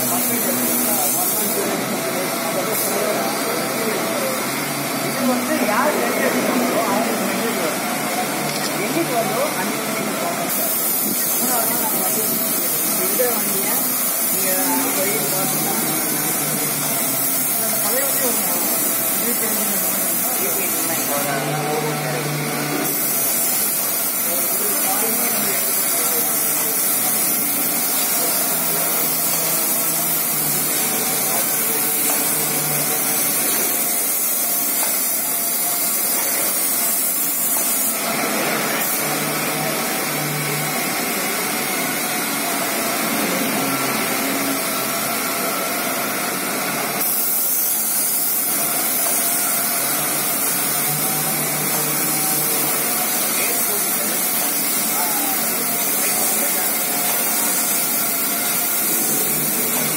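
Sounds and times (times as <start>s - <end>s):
paint spray guns hissing: 0.0s - 59.9s.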